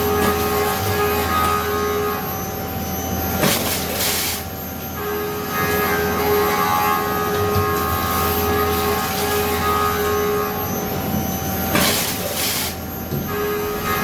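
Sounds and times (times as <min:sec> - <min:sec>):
milling machine running: 0:00.0 - 0:14.0.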